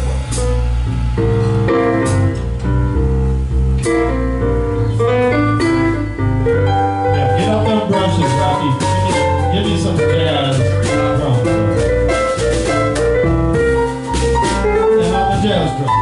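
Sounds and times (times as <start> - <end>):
drums: 0.0 - 4.4, 5.1 - 16.0
electric bass line: 0.0 - 16.0
electric keyboard chords: 0.0 - 16.0.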